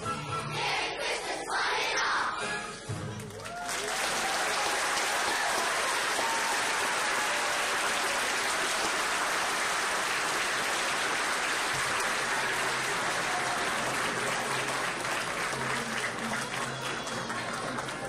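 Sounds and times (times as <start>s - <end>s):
audience applauding: 3.2s - 18.0s.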